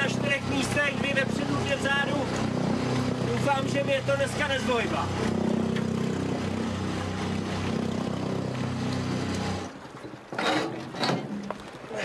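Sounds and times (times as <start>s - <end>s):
outboard motor running: 0.0s - 11.7s.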